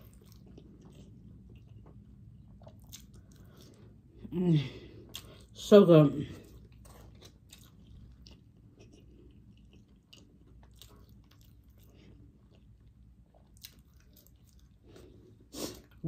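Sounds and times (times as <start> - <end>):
person chewing fries: 0.0 - 5.6, 6.3 - 16.0.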